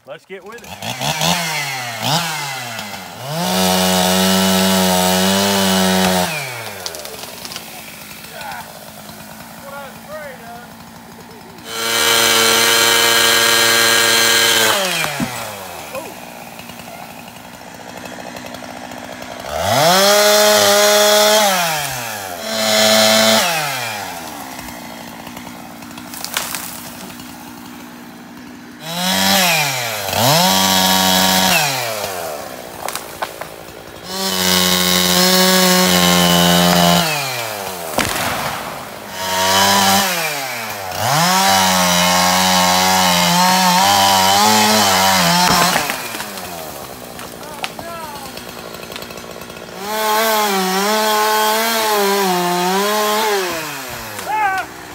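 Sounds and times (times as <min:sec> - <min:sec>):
chainsaw revving: 0:00.2 - 0:54.9.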